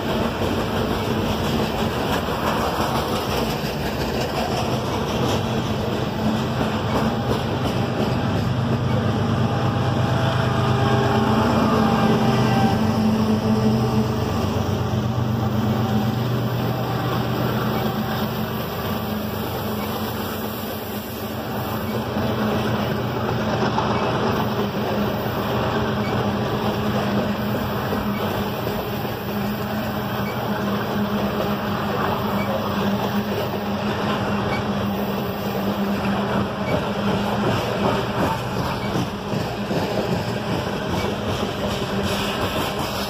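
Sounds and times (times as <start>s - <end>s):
steel wheels running on rails: 0.0s - 43.0s.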